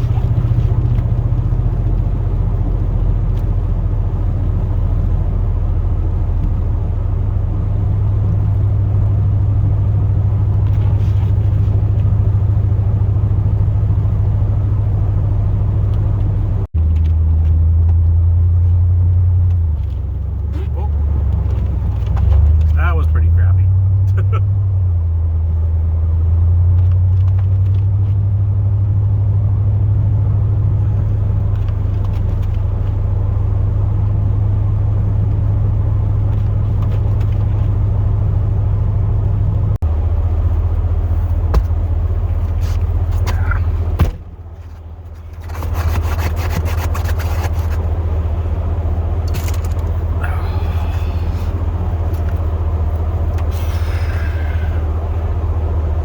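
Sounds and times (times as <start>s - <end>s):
truck engine drone in cab: 0.0s - 56.0s.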